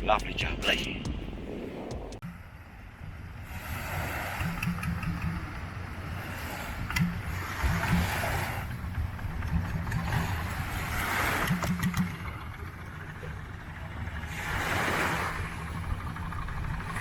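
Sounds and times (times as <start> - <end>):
engine rumbling: 0.0 - 17.0
hissing wind or water: 0.0 - 17.0.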